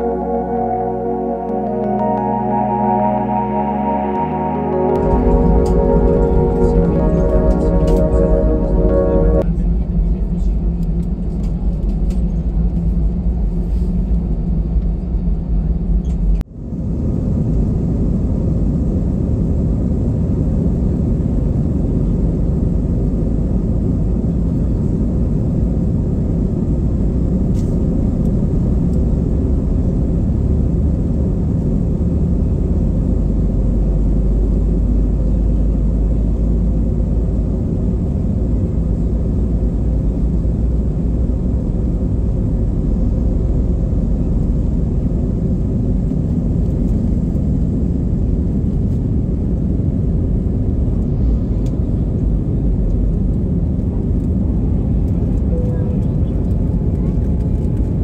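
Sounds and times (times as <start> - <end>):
jet engines rumbling in cabin: 5.1 - 58.0.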